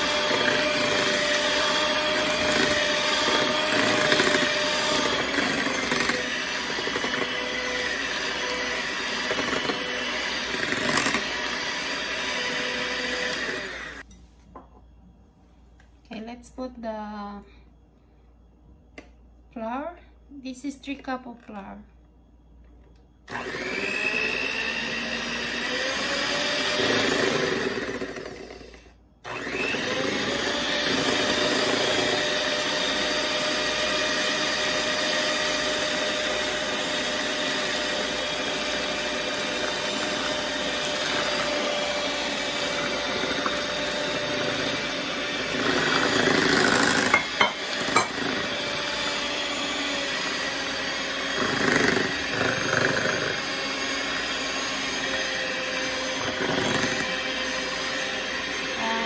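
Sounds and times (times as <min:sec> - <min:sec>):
electric hand mixer whirring: 0:00.0 - 0:14.1, 0:23.3 - 0:59.0.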